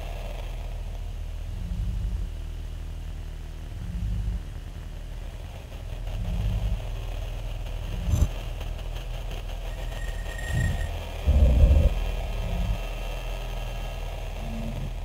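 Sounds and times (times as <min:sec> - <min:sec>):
deep rumble: 0:00.0 - 0:15.0.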